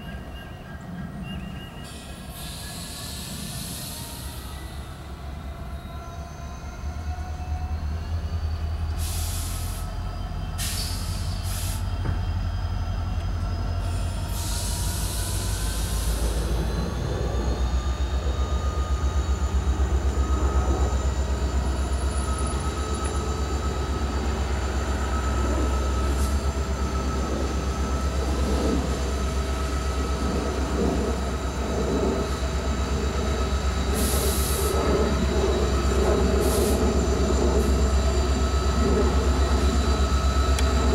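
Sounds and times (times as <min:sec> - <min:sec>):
diesel locomotive engine rumble: 0:00.0 - 0:40.9.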